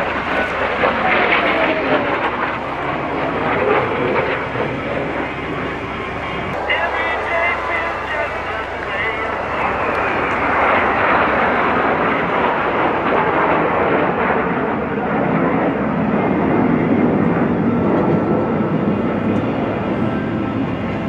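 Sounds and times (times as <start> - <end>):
jets flying past: 0.0 - 21.0.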